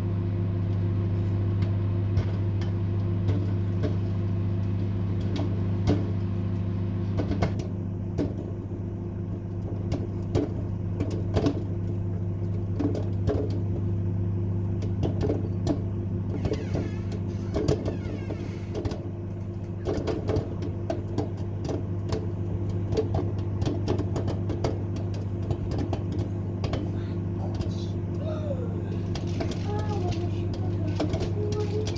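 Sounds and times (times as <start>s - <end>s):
microwave oven humming: 0.0s - 31.9s
popcorn popping: 0.6s - 31.9s.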